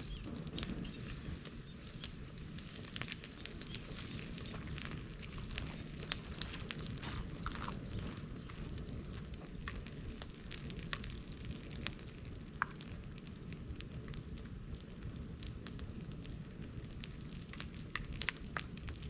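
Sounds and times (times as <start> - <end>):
bonfire flames rushing: 0.0 - 19.0
fire crackling and popping: 0.0 - 19.0.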